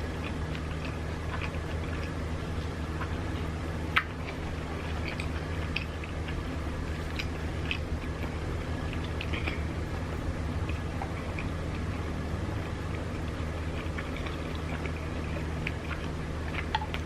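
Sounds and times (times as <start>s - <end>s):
mouth chewing with wet smacks: 0.0s - 17.0s
steady low hum: 0.0s - 17.0s.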